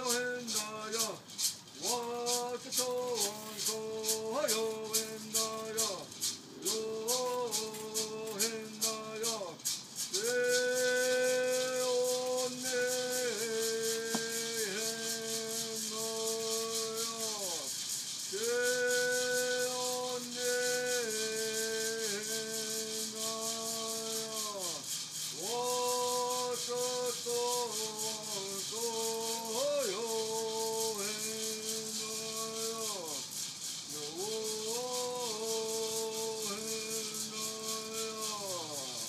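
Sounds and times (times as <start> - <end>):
hand rattle shaking: 0.0 - 39.0
man singing: 0.0 - 39.0.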